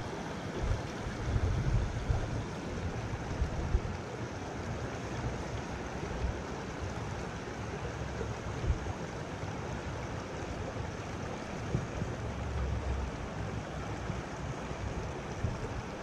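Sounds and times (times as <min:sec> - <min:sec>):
creek water rushing over stones: 0:00.0 - 0:16.0.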